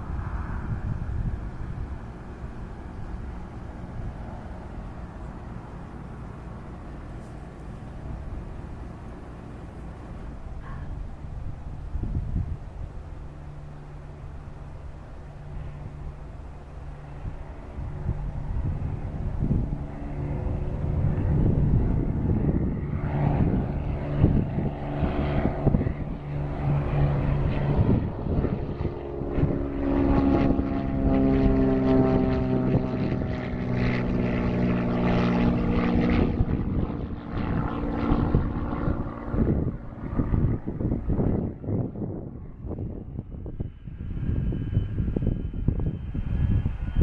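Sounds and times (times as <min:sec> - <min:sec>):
propeller airplane engine running: 0:00.0 - 0:47.0.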